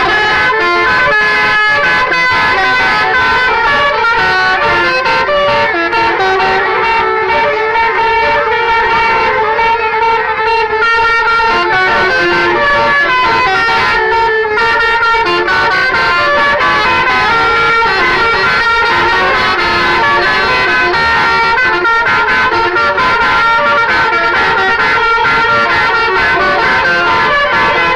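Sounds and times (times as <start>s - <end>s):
multi-tone musical air horns: 0.0s - 27.9s.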